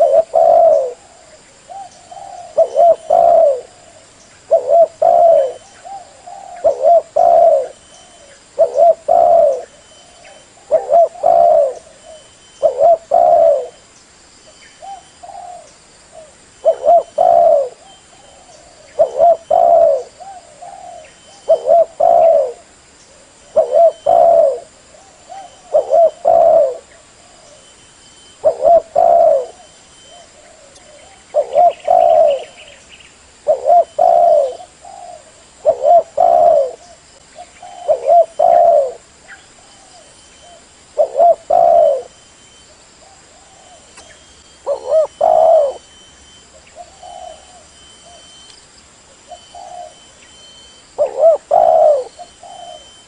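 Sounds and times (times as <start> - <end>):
dove cooing: 0.0 - 13.8, 14.8 - 32.8, 33.4 - 42.2, 43.0 - 48.4, 49.2 - 53.0.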